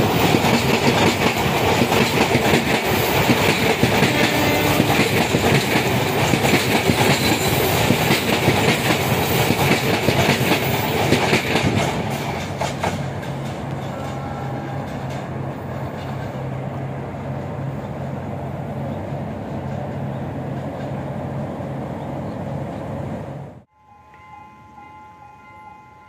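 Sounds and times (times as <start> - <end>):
train wheels rumbling on rails: 0.0 - 23.7.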